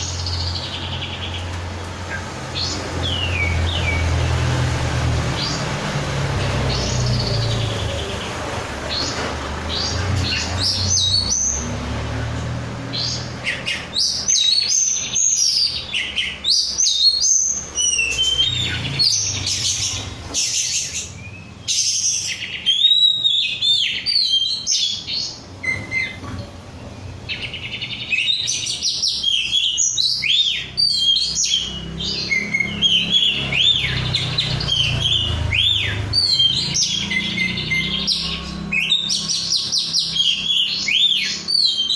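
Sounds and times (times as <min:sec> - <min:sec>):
bird singing warbling phrases: 0:00.0 - 0:41.9.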